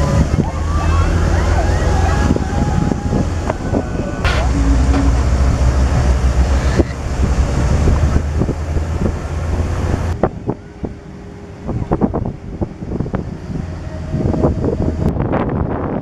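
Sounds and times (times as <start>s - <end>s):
jeep engine rumble: 0.0s - 16.0s
wind buffeting microphone: 0.0s - 16.0s.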